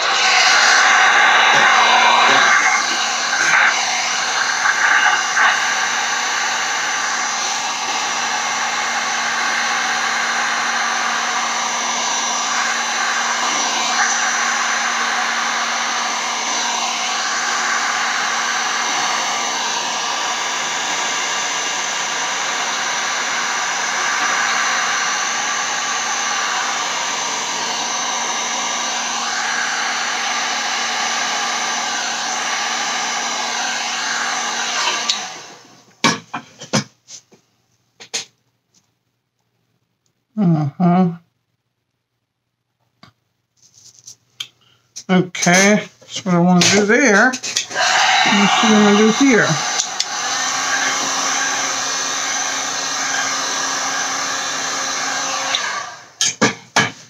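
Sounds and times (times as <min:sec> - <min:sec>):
heat gun blowing air: 0:00.0 - 0:35.8, 0:46.5 - 0:57.0.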